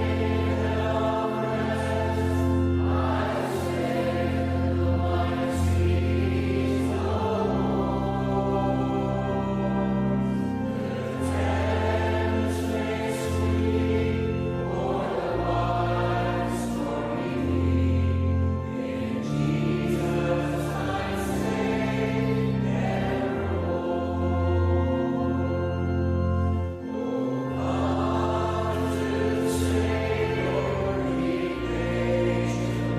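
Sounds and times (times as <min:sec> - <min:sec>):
choir singing gospel song: 0:00.0 - 0:32.9
long held bass notes: 0:00.0 - 0:32.9
sustained chords: 0:00.0 - 0:32.9.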